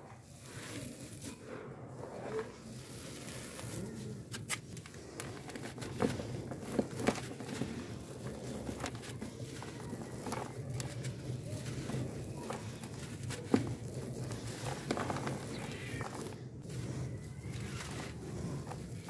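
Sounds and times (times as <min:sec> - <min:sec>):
powder sifting down: 0:00.2 - 0:04.4, 0:05.0 - 0:19.0
hands crumbling charcoal: 0:02.7 - 0:19.0.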